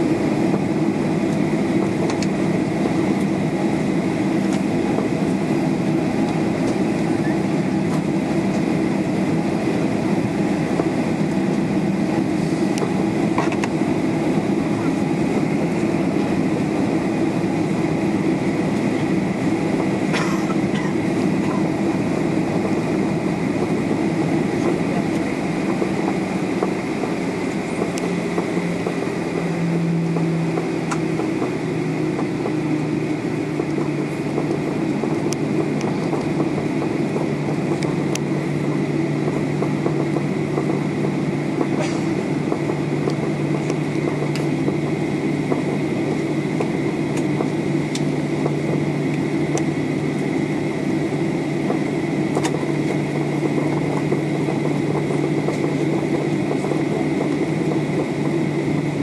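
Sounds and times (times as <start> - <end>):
jet engines running: 0.0 - 59.0
wheels rumbling: 0.0 - 59.0.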